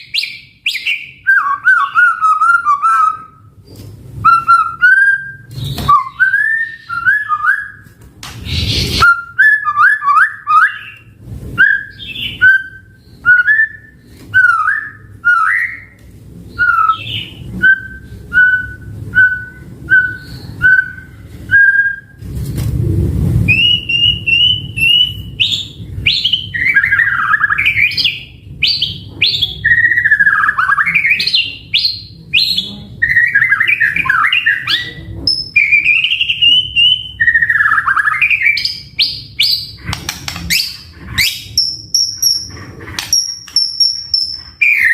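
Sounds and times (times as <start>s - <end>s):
bird singing whistled song: 0.0s - 3.4s, 4.2s - 7.8s, 8.5s - 11.0s, 11.6s - 22.2s, 23.5s - 39.7s, 43.1s - 44.9s.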